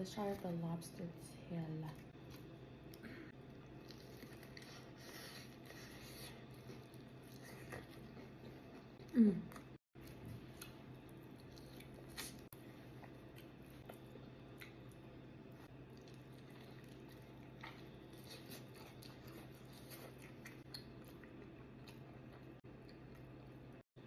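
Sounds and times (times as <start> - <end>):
quiet chewing and clicks: 1.9 - 23.8.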